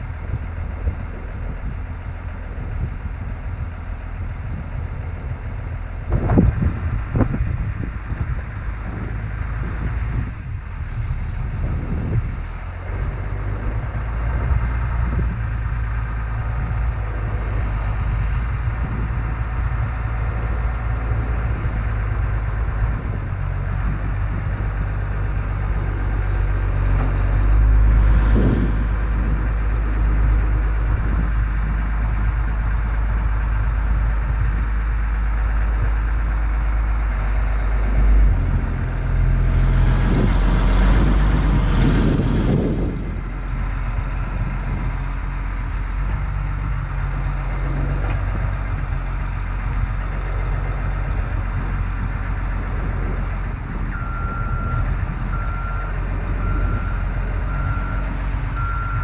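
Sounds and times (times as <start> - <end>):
wheel loader diesel engine: 0.0 - 59.0.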